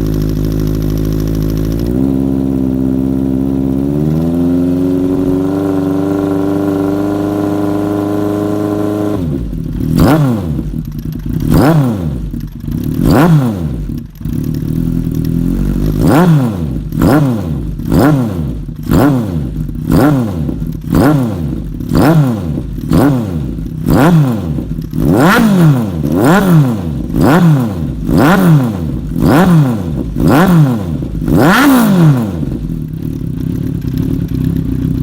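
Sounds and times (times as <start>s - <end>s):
motorcycle engine idling: 0.0s - 35.0s
motorcycle engine revving: 0.0s - 35.0s.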